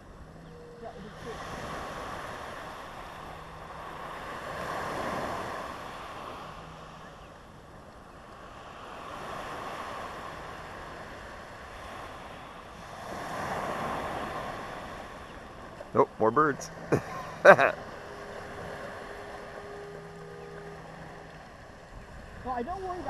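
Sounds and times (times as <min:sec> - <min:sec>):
ocean surf breaking: 0:00.6 - 0:07.6, 0:08.2 - 0:23.0.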